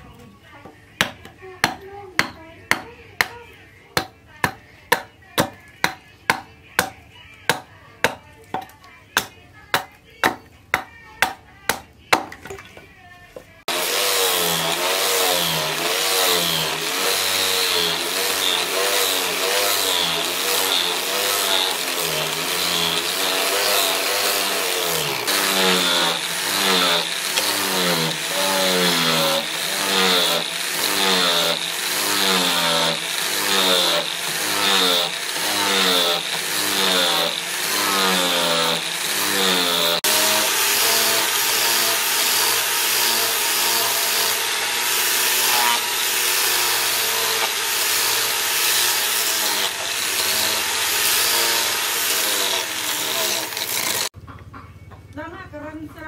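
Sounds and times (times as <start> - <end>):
tool sawing wood: 4.0 - 12.2, 13.6 - 54.2.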